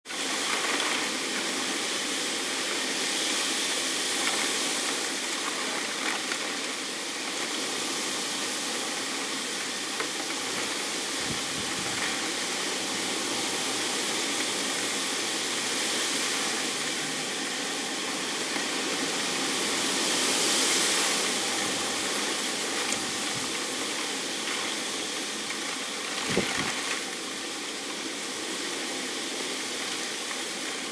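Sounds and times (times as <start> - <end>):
heavy driving rain: 0.1 - 30.9.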